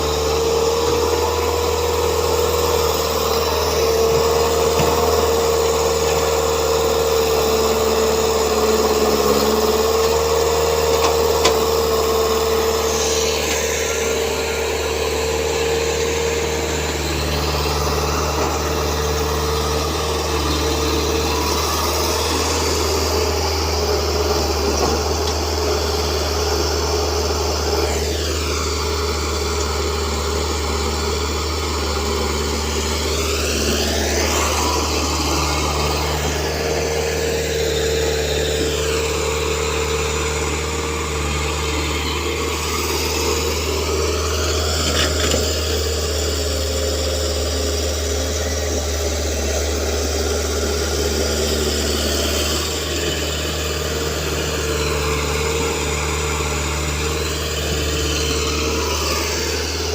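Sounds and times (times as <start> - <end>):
excavator diesel engine working: 0.0 - 59.9.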